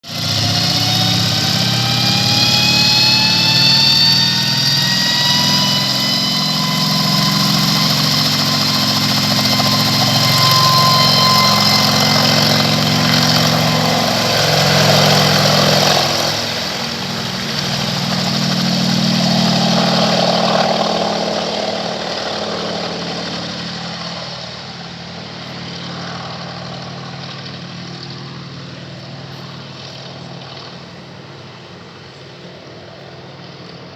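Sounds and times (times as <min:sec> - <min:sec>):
helicopter engine whine: 0:00.0 - 0:33.9
helicopter rotor beat: 0:00.0 - 0:33.9.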